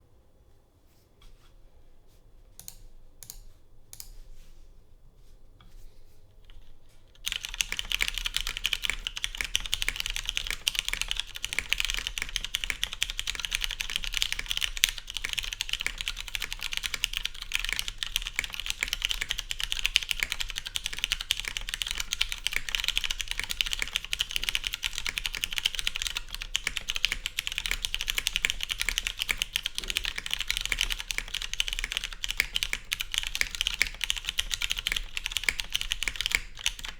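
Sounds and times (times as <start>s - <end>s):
mechanical keyboard typing: 7.2s - 36.9s.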